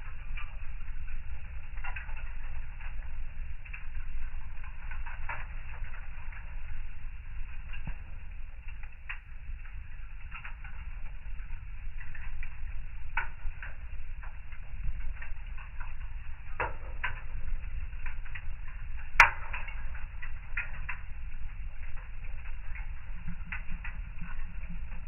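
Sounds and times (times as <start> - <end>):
low rumble of fire: 0.0 - 25.0
wood fire crackling: 0.0 - 25.0.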